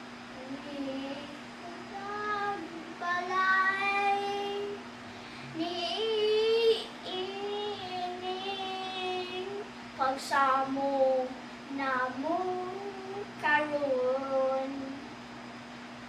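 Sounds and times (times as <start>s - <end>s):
child singing: 0.4s - 4.8s, 5.6s - 15.0s.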